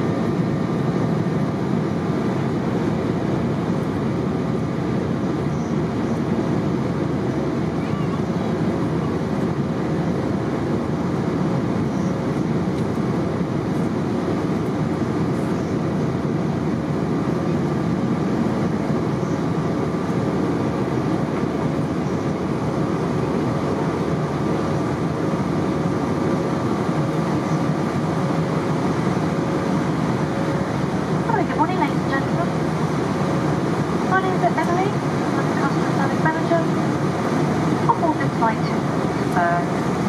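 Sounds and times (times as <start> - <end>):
aircraft cabin roar: 0.0 - 40.0.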